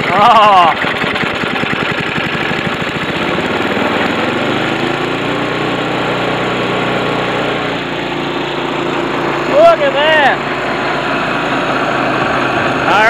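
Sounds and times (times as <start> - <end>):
snowblower engine running rough: 0.0 - 13.0.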